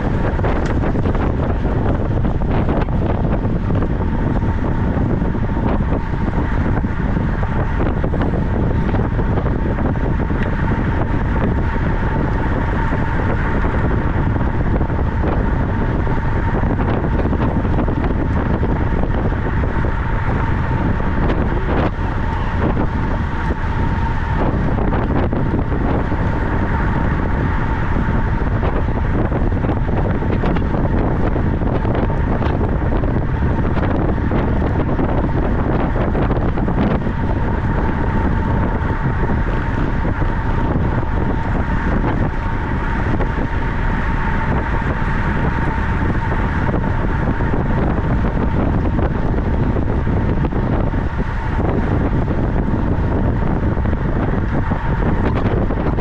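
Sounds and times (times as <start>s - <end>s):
thin steady tone: 0.0s - 56.0s
wind buffeting microphone: 0.0s - 56.0s.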